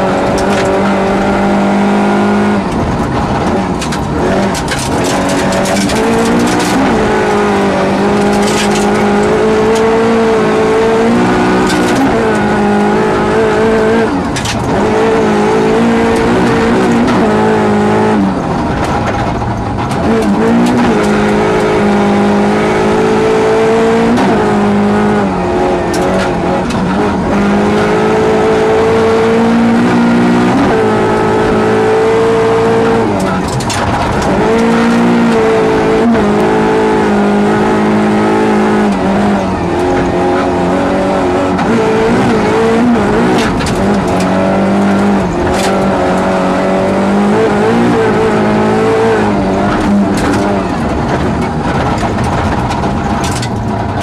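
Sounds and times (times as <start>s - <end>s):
rally car engine revving: 0.0s - 54.0s
tyres on gravel road: 0.0s - 54.0s.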